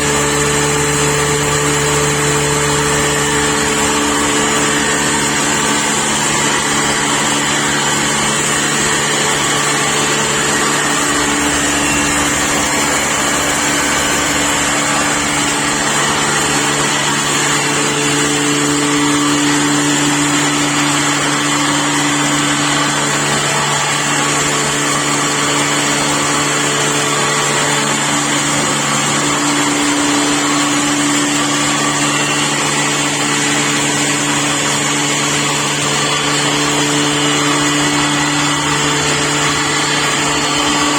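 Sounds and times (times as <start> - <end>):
continuous rushing whir: 0.0 - 40.9
pulveriser motor hum: 0.0 - 40.9.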